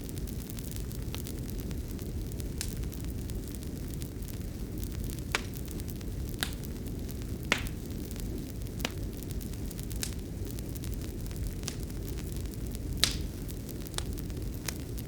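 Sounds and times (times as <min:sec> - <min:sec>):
fire crackling pops: 0:00.0 - 0:15.0
fireplace fire rumbling: 0:00.0 - 0:15.0.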